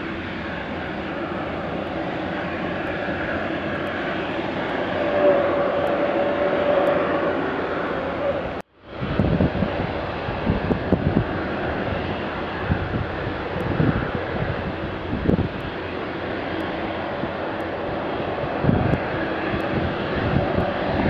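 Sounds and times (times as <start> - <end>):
airliner engines running: 0.0 - 21.0.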